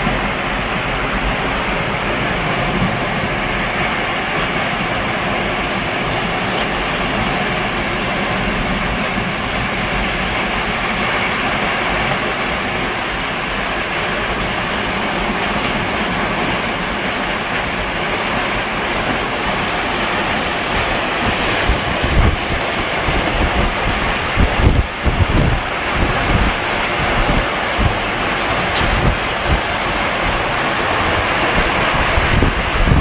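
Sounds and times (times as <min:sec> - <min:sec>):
tornado winds rushing: 0:00.0 - 0:33.0
wind buffeting microphone: 0:00.0 - 0:33.0.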